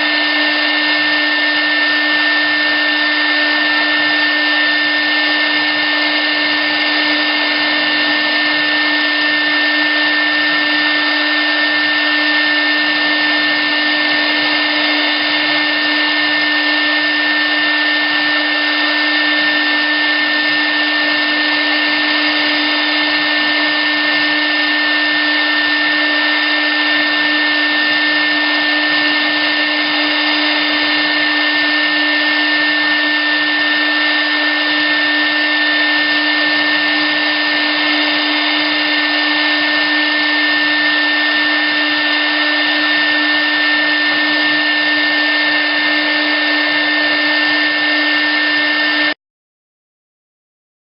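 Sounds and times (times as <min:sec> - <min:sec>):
router spindle whine: 0:00.0 - 0:49.2.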